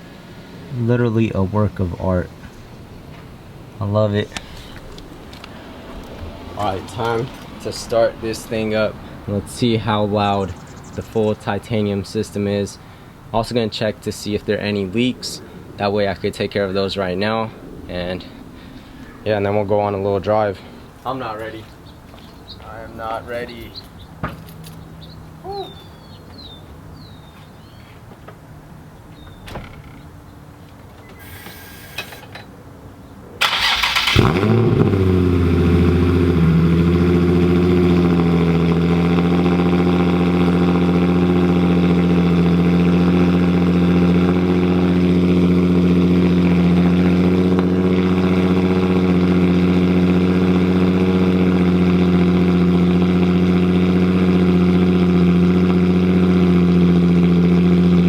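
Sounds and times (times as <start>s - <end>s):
car engine starting and idling: 1.2s - 25.2s, 33.4s - 58.0s.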